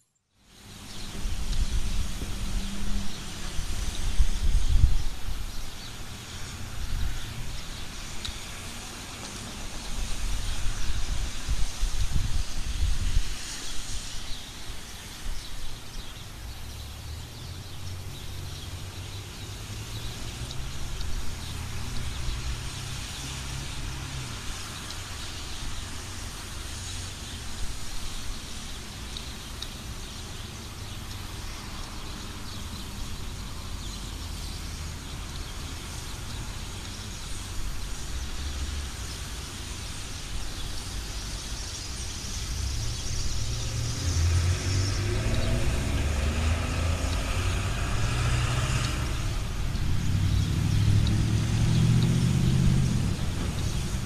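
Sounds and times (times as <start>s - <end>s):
tyres hissing on wet pavement: 0.4s - 54.0s
cars passing: 0.5s - 54.0s.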